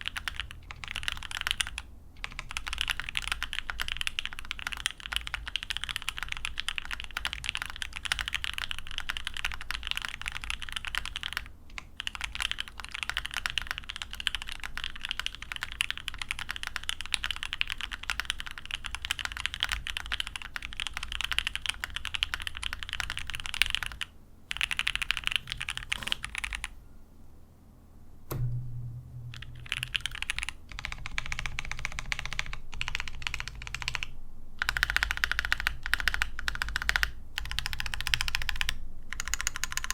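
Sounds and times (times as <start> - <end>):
fast mechanical keyboard typing: 0.0 - 26.8, 29.3 - 39.9.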